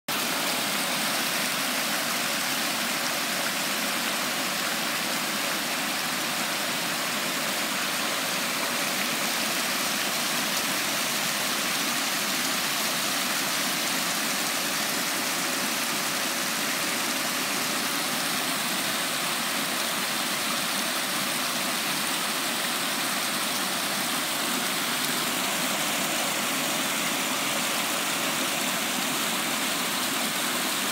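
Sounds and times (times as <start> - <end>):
waterfall rushing over stone: 0.1 - 30.9.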